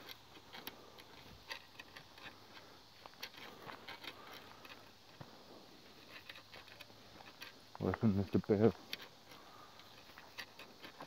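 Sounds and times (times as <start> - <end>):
footsteps on dirt trail: 0.0 - 11.0.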